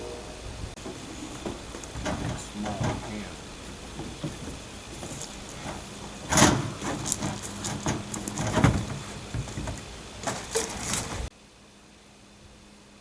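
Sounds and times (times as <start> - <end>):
faint steady hum: 0.0 - 13.0
knocks and clunks of handled objects: 0.8 - 11.3.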